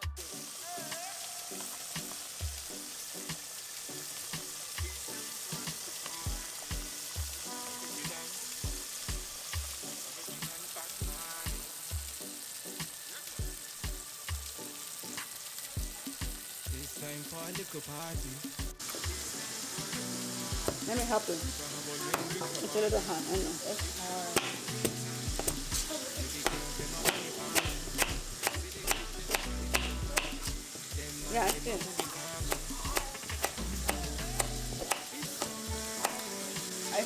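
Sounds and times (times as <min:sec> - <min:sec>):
background music with beat: 0:00.0 - 0:37.0
potatoes sizzling in a pot: 0:00.0 - 0:37.0.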